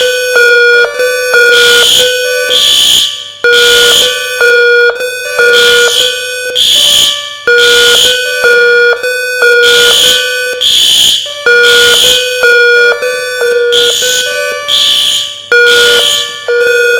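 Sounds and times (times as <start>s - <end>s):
fire alarm horn pulses: 0.0s - 16.9s
two-pitch electronic alarm tone: 0.0s - 16.9s.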